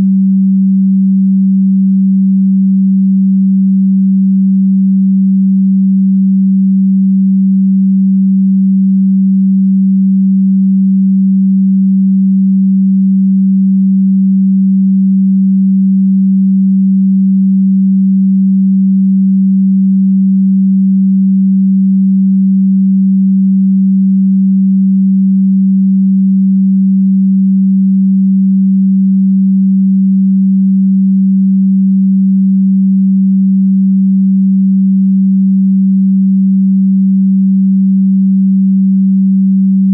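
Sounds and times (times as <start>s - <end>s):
low sine tone: 0.0s - 39.9s.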